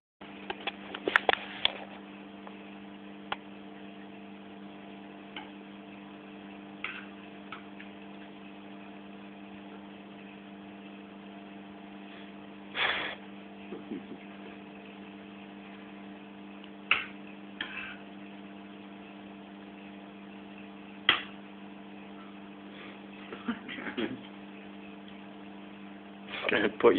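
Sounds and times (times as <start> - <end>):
low electrical hum: 0.2 - 26.9.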